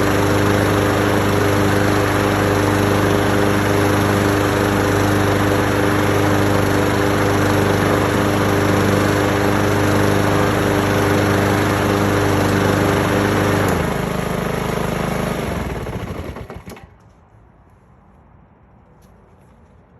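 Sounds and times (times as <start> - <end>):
lawn mower engine running: 0.0 - 16.9.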